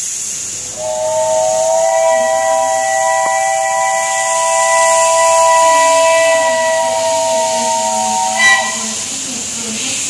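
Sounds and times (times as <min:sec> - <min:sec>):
steam hissing: 0:00.0 - 0:10.0
steam locomotive chime whistle: 0:00.6 - 0:09.6.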